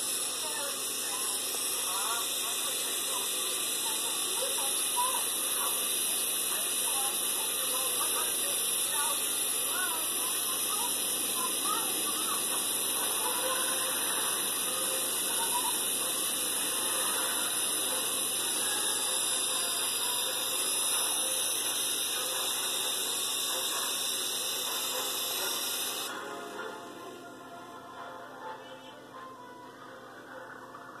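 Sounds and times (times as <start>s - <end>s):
harsh high-pitched hiss: 0.0s - 27.0s.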